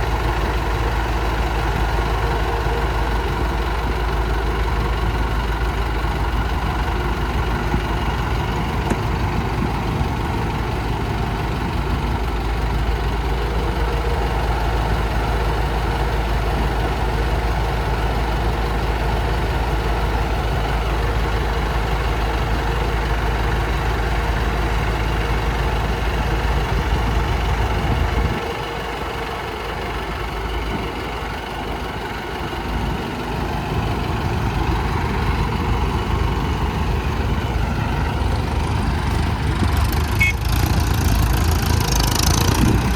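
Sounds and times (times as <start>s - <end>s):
heavy diesel machinery rumbling: 0.0s - 42.9s.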